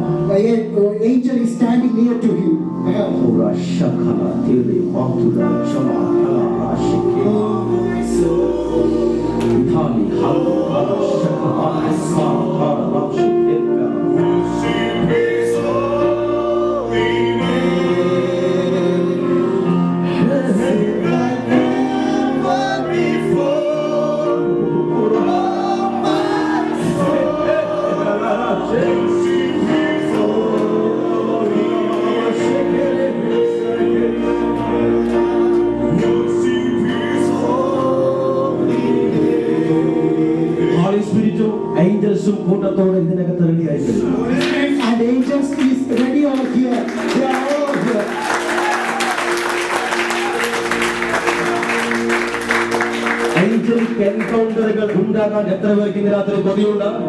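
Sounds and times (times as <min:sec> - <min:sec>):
held chord tones: 0:00.0 - 0:57.0
group singing worship music: 0:03.1 - 0:42.0, 0:43.6 - 0:54.9.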